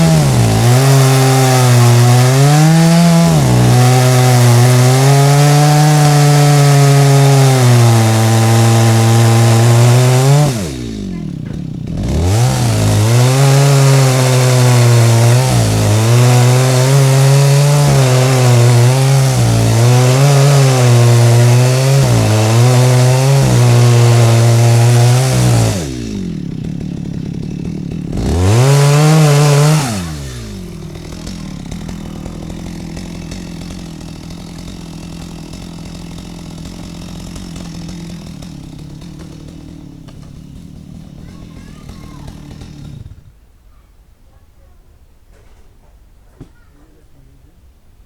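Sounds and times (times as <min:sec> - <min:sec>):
chainsaw cutting wood: 0:00.0 - 0:43.5.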